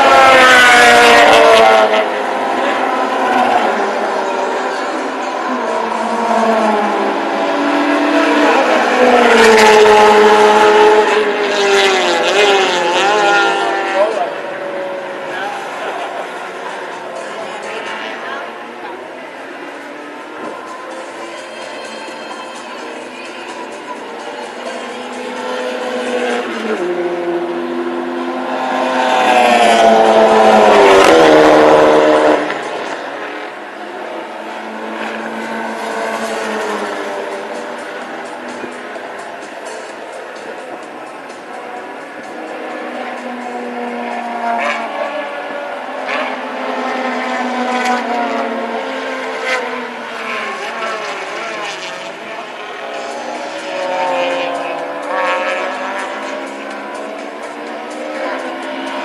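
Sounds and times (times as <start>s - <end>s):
racing engine passing by: 0.0s - 21.3s, 22.8s - 59.0s.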